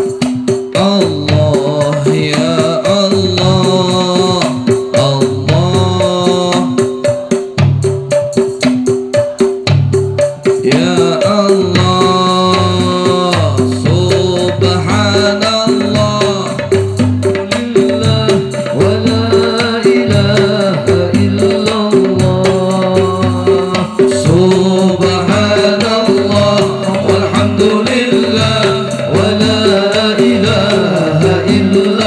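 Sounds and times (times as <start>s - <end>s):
hand-played frame drums: 0.0s - 32.0s
man singing through a microphone: 0.6s - 7.5s, 10.6s - 32.0s.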